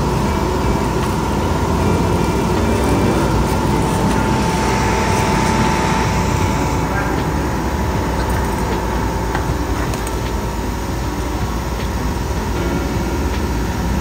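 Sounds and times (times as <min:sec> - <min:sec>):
thin whine: 0:00.0 - 0:14.0
vehicle engine: 0:00.0 - 0:14.0.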